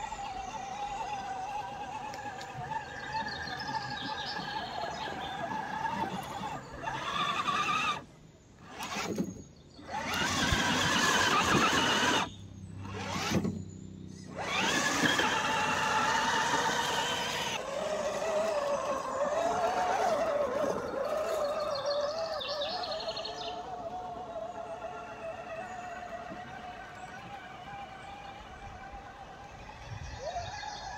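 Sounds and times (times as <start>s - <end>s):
electric motor and gears whining: 0.0s - 30.9s.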